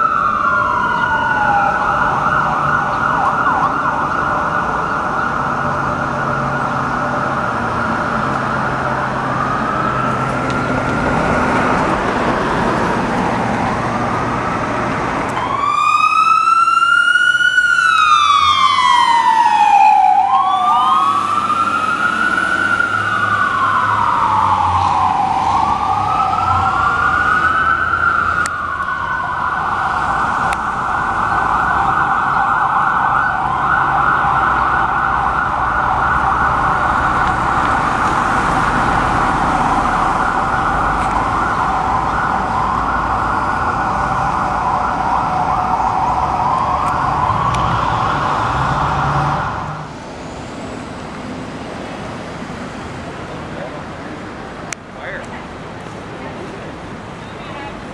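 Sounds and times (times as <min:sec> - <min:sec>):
fire truck siren: 0:00.0 - 0:57.9.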